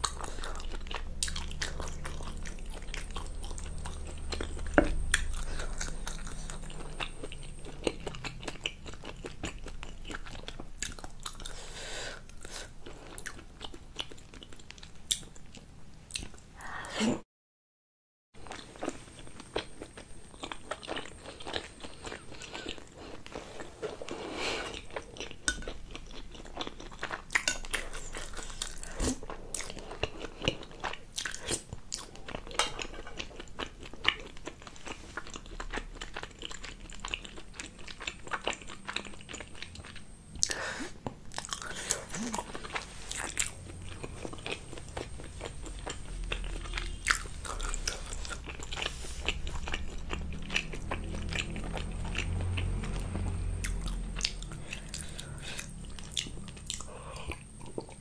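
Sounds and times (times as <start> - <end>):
chewing dumplings: 0.0 - 16.5, 18.4 - 58.0.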